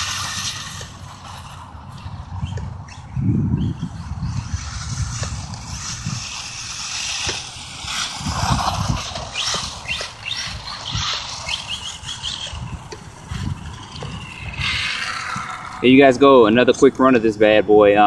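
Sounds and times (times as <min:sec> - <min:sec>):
electric motor whine: 0:00.0 - 0:16.2
wind buffeting microphone: 0:00.0 - 0:18.0.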